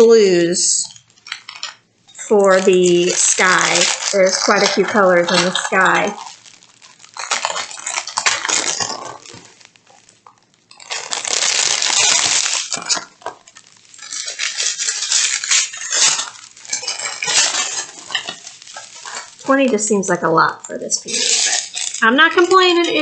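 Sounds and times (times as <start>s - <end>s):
plastic bags crinkling: 0.0s - 23.0s
resin beads clinking and rattling: 0.0s - 23.0s.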